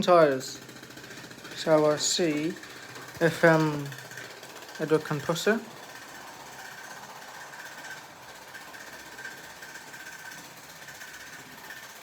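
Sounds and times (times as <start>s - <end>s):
model train motor whine: 0.0s - 12.0s.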